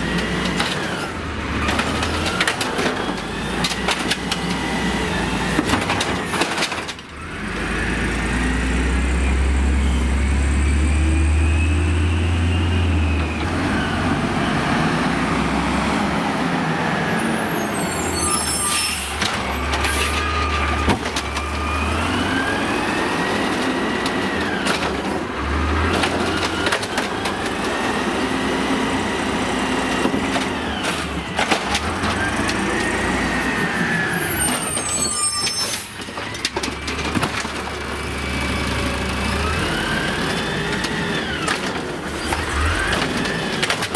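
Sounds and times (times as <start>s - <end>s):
truck engine rumbling: 0.0s - 43.9s.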